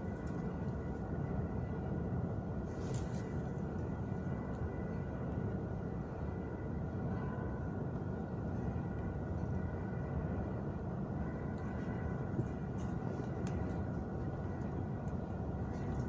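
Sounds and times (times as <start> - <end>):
faint whine tones: 0.0 - 16.0
low rumble of subway station: 0.0 - 16.0.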